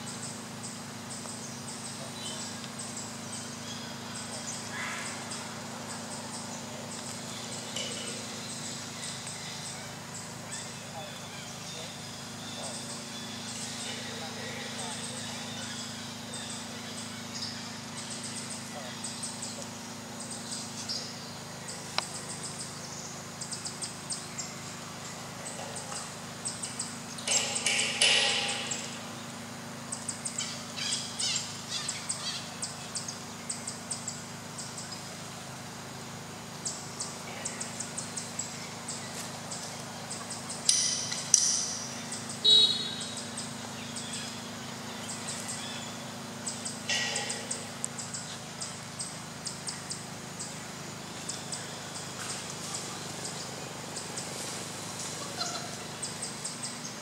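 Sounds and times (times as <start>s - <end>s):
forest birds chirping: 0.0s - 57.0s
low steady hum: 0.0s - 57.0s.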